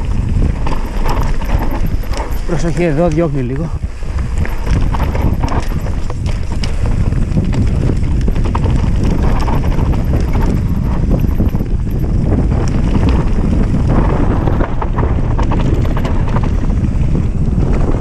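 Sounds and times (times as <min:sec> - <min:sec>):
bike frame and chain rattling: 0:00.0 - 0:18.0
low rumble: 0:00.0 - 0:18.0
tyres crunching over dirt: 0:00.0 - 0:18.0.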